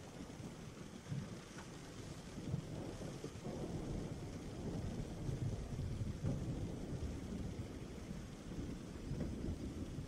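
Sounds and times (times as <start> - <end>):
low rumble of thunder: 0.0 - 10.0
steady rain: 0.0 - 10.0.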